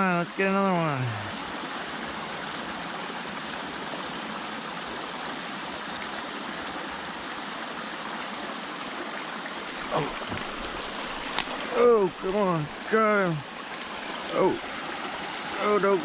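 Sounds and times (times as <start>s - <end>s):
stream flowing over rocks: 0.0s - 16.0s.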